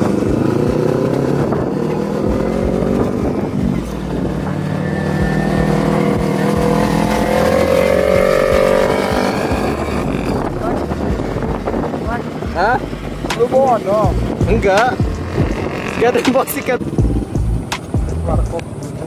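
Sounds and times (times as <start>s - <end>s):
motorcycle engine rising in pitch: 0.0s - 19.0s
motorcycle engine steady note: 0.0s - 19.0s.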